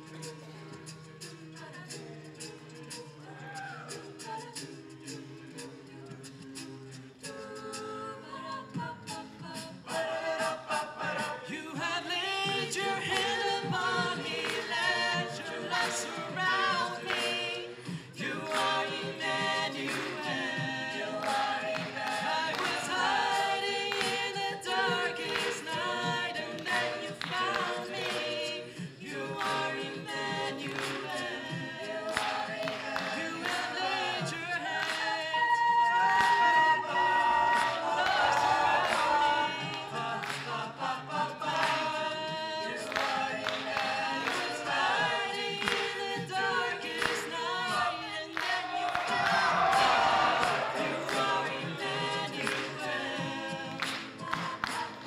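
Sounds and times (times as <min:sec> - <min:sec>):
a cappella group singing: 0:00.0 - 0:55.0.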